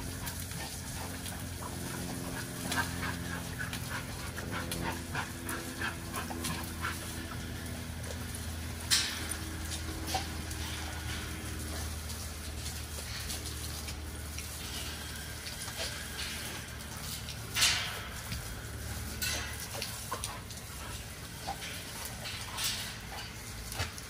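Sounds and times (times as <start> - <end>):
dog chewing clicks and crunches: 0.0 - 24.0
dogs panting: 0.0 - 24.0
steady low hum: 0.0 - 24.0.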